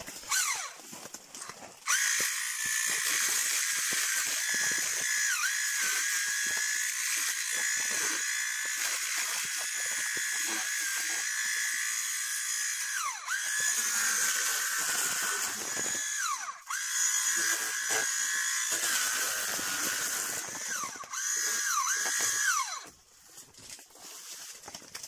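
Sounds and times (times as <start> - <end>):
electric motor whine: 1.8 - 23.0.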